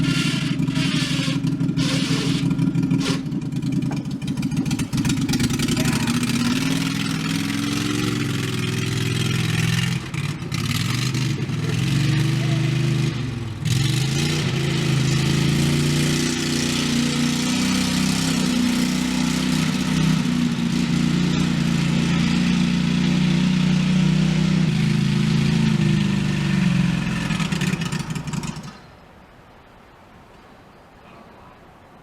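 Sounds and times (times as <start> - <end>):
tractor engine running under load: 0.0 - 28.9.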